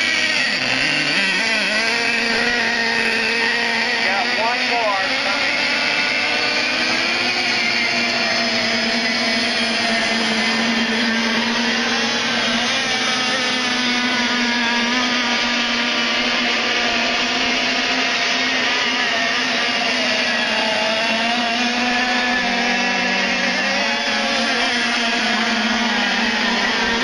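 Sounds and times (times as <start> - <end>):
model boat engines buzzing: 0.0 - 27.0.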